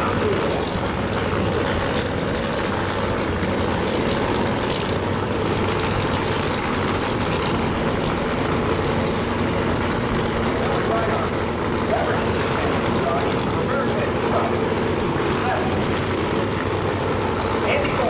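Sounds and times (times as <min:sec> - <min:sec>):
drag racing engines idling: 0:00.0 - 0:18.0.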